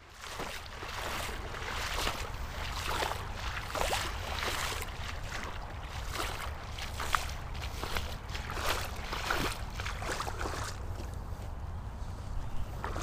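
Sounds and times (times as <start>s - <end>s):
creek current running: 0.0s - 11.0s
splashing of wading steps: 0.0s - 11.4s, 12.6s - 13.0s.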